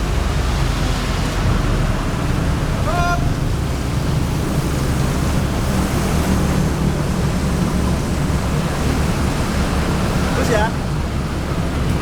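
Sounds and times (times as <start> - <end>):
diesel paving machinery running: 0.0 - 12.0.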